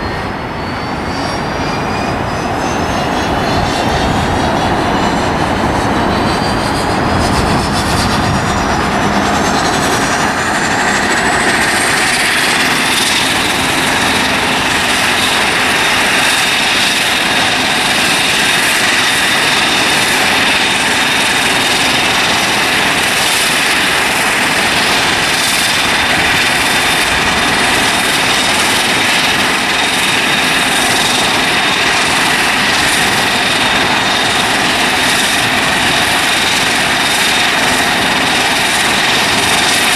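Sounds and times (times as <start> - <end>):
aircraft turbine engines whining: 0.0 - 39.9.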